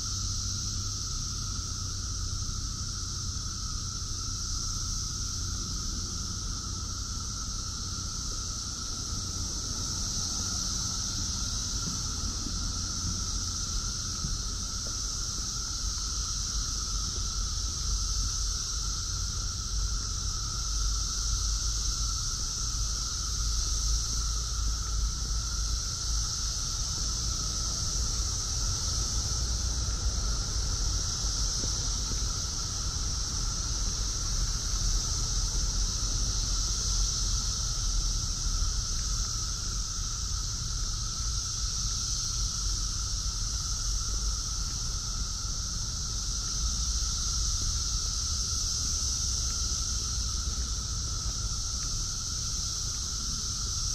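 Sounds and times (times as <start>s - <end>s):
cicadas droning chorus: 0.0s - 53.9s.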